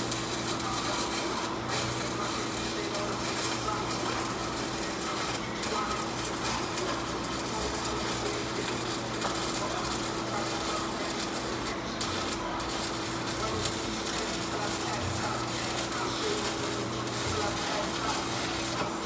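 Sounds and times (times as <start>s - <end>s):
arc welding crackling sizzle: 0.0s - 19.0s.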